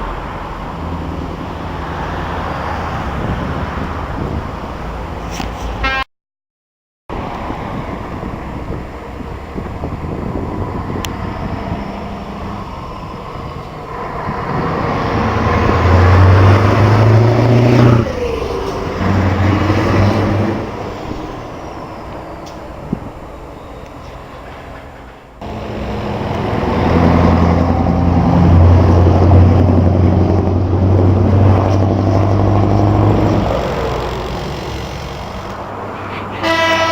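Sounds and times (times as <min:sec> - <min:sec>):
heavy truck driving past: 0:00.0 - 0:06.0, 0:07.1 - 0:36.9
traffic noise: 0:00.0 - 0:06.0, 0:07.1 - 0:36.9
second vehicle engine: 0:07.1 - 0:36.9.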